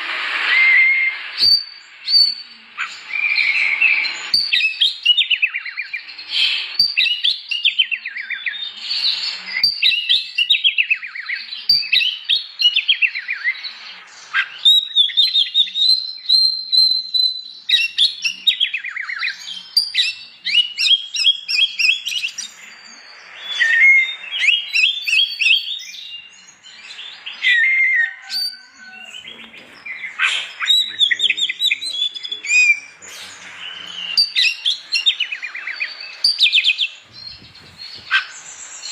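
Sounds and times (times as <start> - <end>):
songbird singing trills and whistles: 0.3 - 38.9.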